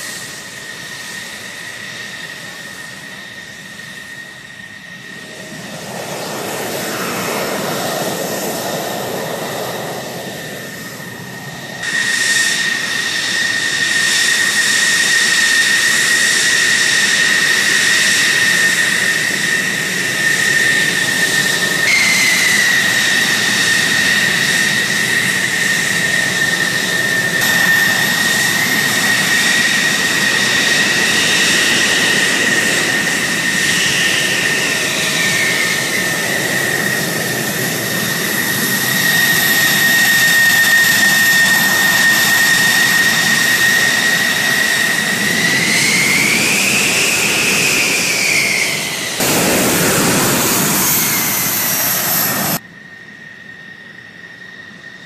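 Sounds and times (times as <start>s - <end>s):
broad rush of exhaust: 0.0s - 52.6s
jet engine high whine: 0.0s - 55.0s.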